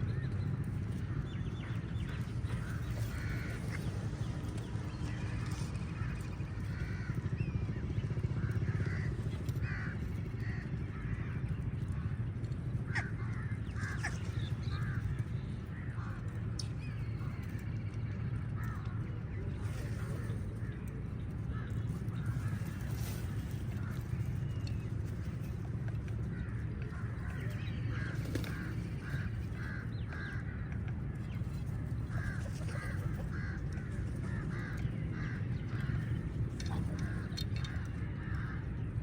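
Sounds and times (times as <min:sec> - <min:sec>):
crows cawing: 0:01.0 - 0:16.4, 0:18.4 - 0:39.0.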